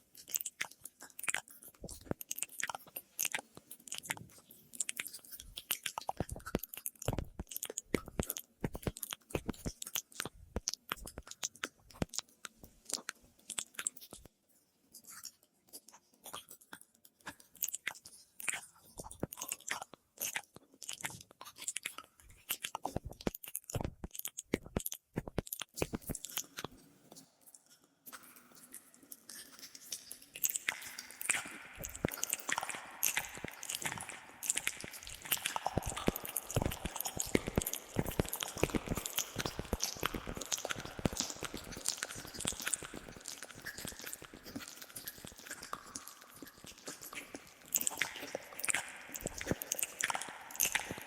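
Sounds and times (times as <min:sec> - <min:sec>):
wet mouth clicks and lip smacks: 0:00.0 - 0:14.3, 0:15.0 - 0:51.0.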